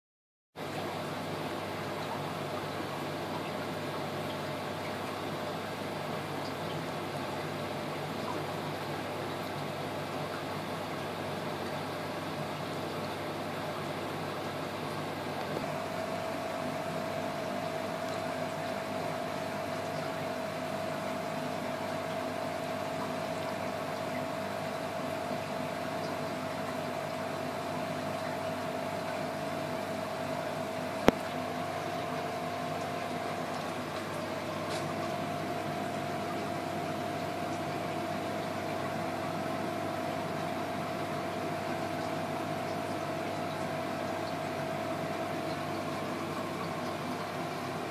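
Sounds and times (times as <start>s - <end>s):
pump hum: 0.6s - 47.9s
water bubbling in aquarium: 0.6s - 47.9s.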